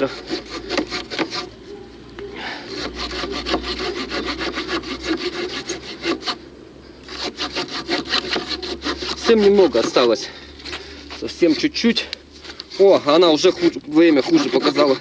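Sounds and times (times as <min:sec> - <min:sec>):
saw blade rasping through wood: 0:00.0 - 0:01.6, 0:02.7 - 0:12.1, 0:12.7 - 0:15.0.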